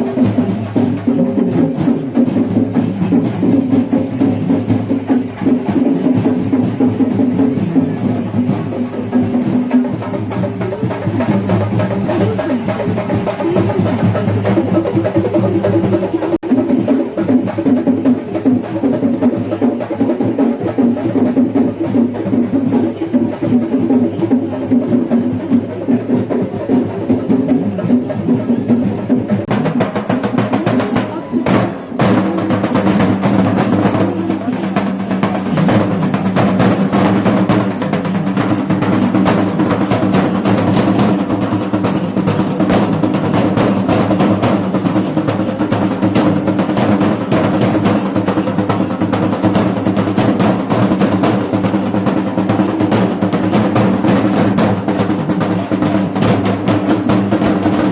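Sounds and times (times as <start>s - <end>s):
drum ensemble playing fast beat: 0.0s - 57.9s.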